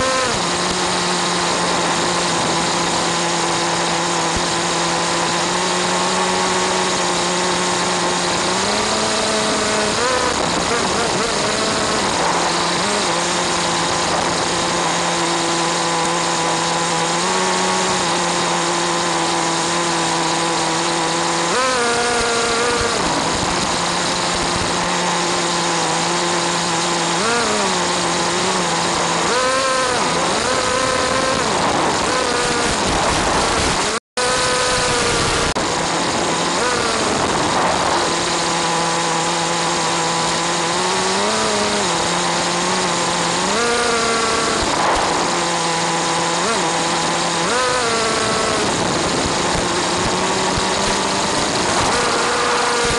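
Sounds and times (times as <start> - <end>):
rc car engine running: 0.0 - 52.9.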